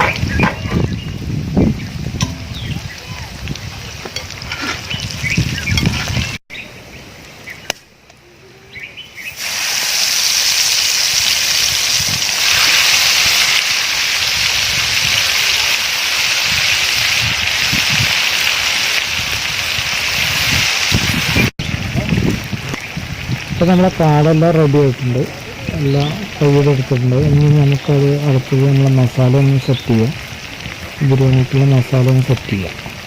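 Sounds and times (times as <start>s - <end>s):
food deep-frying in hot oil: 0.0s - 6.4s, 8.9s - 33.0s.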